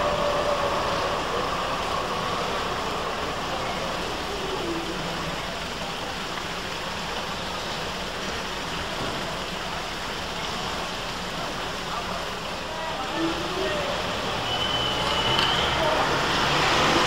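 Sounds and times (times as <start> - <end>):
city street noise: 0.0 - 17.0.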